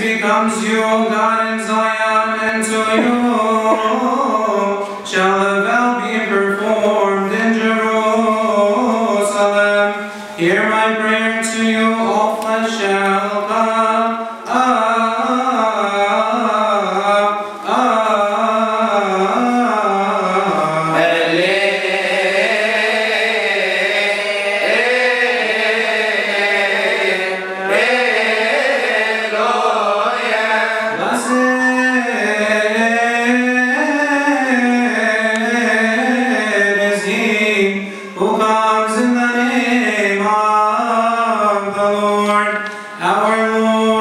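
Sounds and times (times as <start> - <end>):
man chanting into microphone: 0.0 - 29.3, 29.9 - 44.0.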